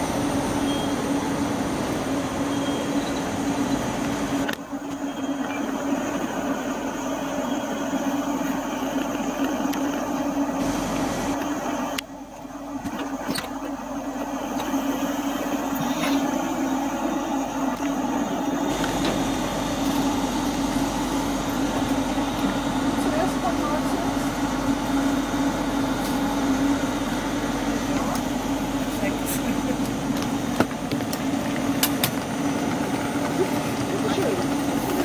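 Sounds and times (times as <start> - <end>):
train humming: 0.0 - 35.0.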